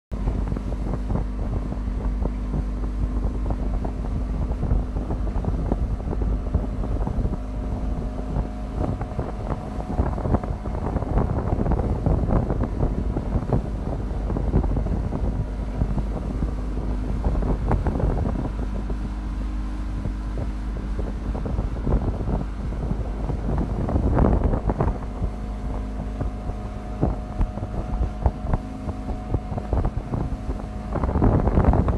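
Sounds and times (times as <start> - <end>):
motorboat engine running: 0.1 - 31.9
wind buffeting microphone: 0.1 - 31.9
wake rushing: 0.2 - 31.9.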